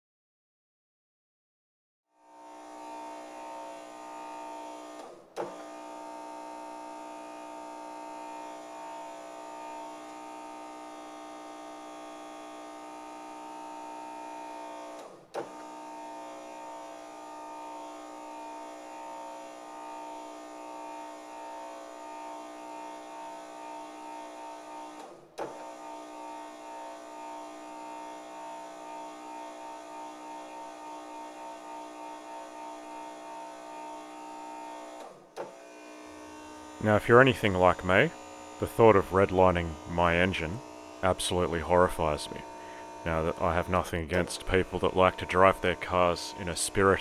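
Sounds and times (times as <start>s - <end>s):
small motors whining: 2.2s - 47.0s.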